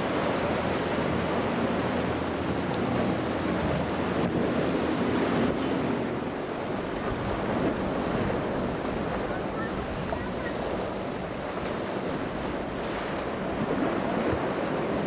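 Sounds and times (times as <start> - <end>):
faint boat engine drone: 0.0 - 15.0
wind buffeting microphone: 0.0 - 15.0.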